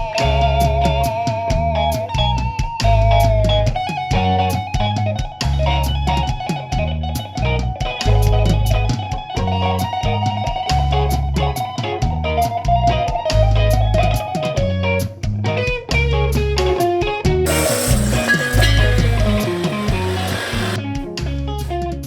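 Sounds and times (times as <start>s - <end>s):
guitar over bass and drums: 0.0s - 22.0s.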